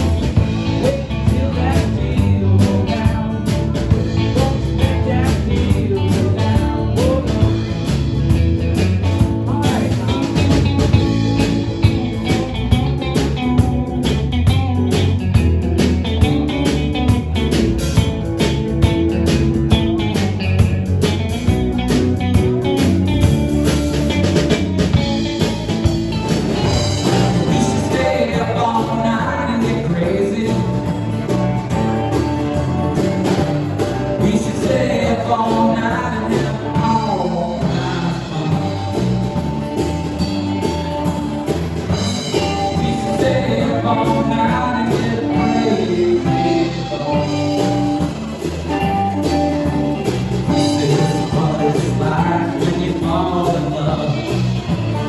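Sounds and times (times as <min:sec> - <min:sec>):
person singing: 0:00.0 - 0:15.0, 0:18.4 - 0:55.0
rock band playing: 0:00.0 - 0:55.0.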